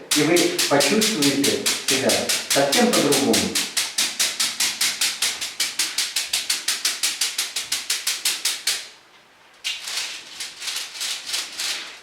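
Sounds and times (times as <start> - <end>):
fast rattling shake: 0.0 - 8.9, 9.7 - 12.0.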